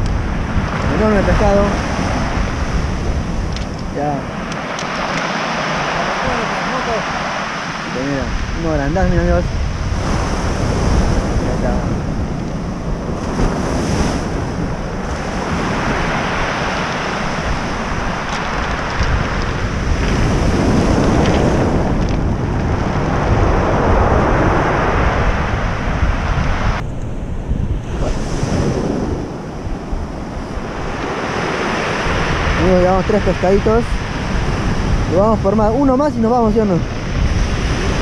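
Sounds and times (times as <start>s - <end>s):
surf breaking on cobble beach: 0.0s - 26.8s, 27.8s - 38.0s
wind rumble on microphone: 0.0s - 38.0s.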